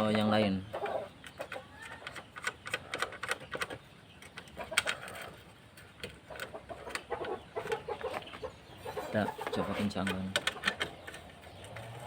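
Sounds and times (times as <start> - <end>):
birds calling: 0.0 - 12.0
metal parts clicking and tapping: 1.2 - 8.4, 9.1 - 12.0.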